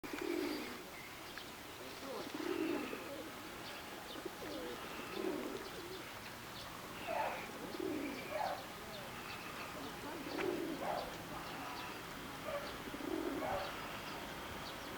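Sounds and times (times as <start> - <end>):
pigeons cooing: 0.0 - 0.9, 1.8 - 14.3
small birds chirping faintly: 0.1 - 14.9.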